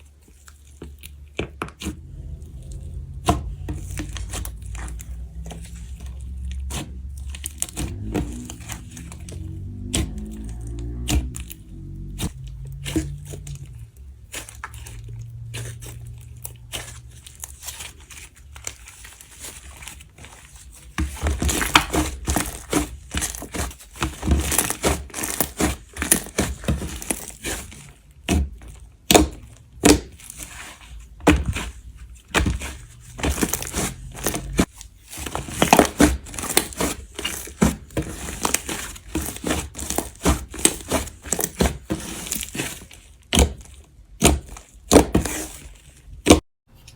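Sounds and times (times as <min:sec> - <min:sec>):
slime being squished by hands: 0:00.0 - 0:46.9.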